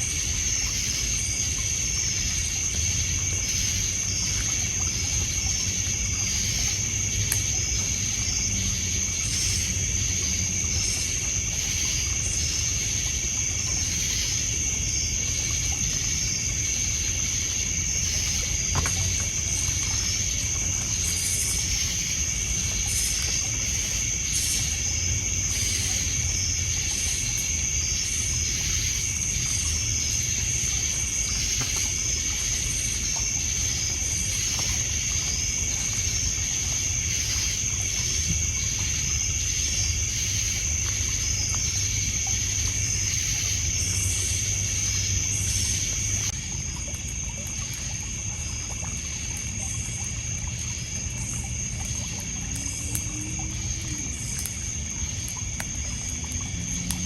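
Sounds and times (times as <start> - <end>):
campfire crackles: 0.0 - 57.0
chorus of insect calls: 0.0 - 57.0
crickets trilling: 0.0 - 57.0
water lapping on pebble beach: 0.0 - 57.0.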